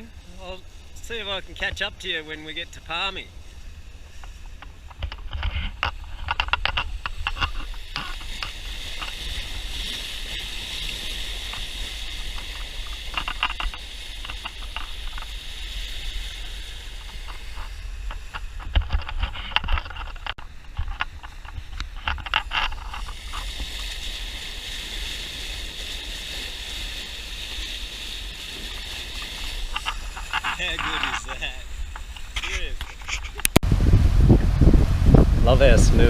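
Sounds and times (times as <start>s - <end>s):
water rushing along hull: 0.0s - 36.0s
wind rumble on microphone: 0.0s - 36.0s.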